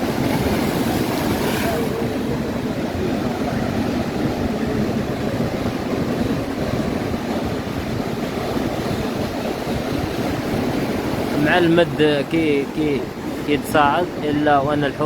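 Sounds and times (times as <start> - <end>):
surf rushing on beach: 0.0 - 15.0
wind on microphone: 0.0 - 15.0.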